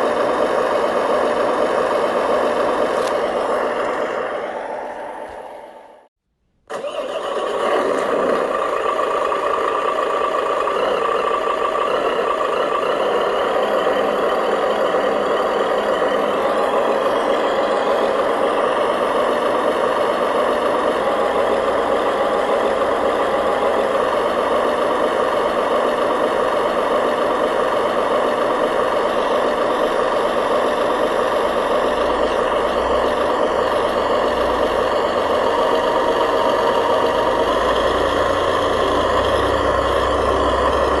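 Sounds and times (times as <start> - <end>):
model truck motor and gear drone: 0.0 - 41.0.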